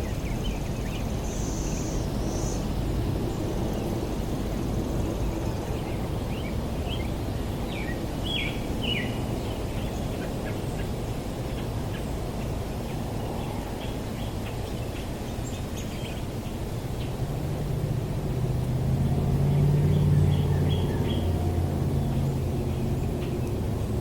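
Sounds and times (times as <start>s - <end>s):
birds chirping: 0.0s - 17.3s, 19.0s - 24.0s
low outdoor rumble: 0.0s - 24.0s.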